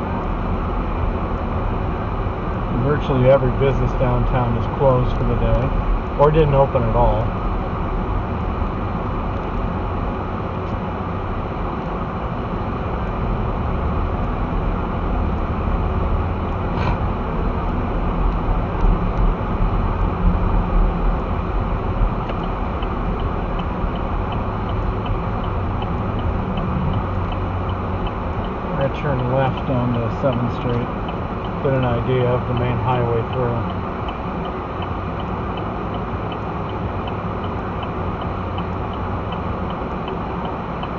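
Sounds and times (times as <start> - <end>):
car road and engine noise: 0.0 - 40.9
turn signal ticking: 0.1 - 40.9.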